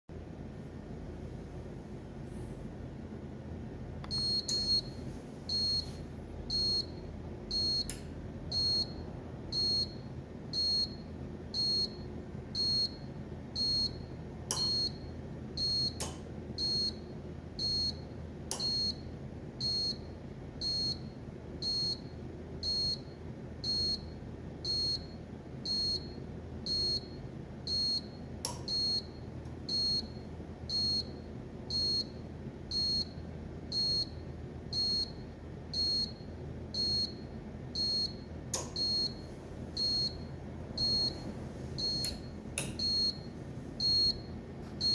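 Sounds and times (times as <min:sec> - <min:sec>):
steady low hum: 0:00.1 - 0:44.9.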